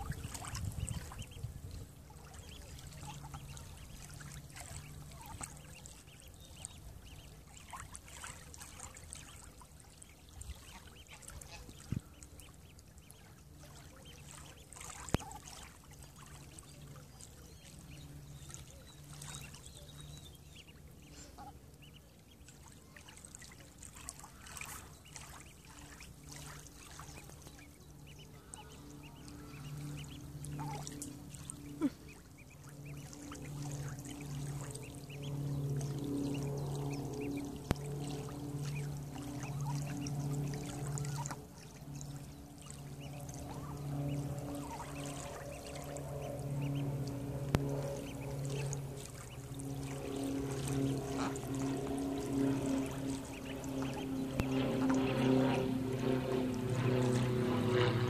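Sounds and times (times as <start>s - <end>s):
ducks dabbling in water: 0.0s - 58.0s.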